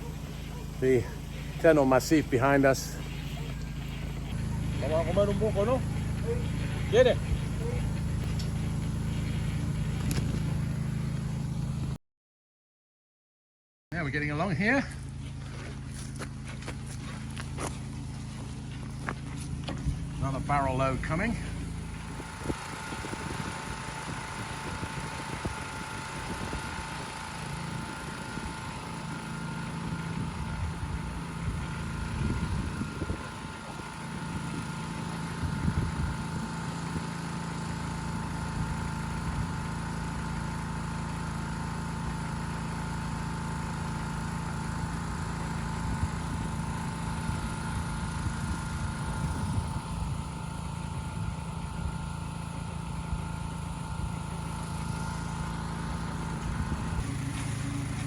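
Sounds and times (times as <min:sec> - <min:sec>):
concrete mixer motor hum: 0:00.0 - 0:12.0, 0:14.5 - 0:58.0.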